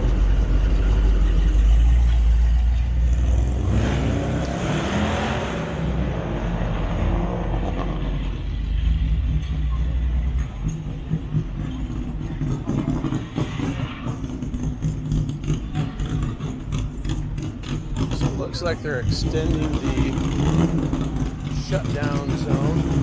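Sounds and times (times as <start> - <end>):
truck engine rolling past: 0.0 - 23.0.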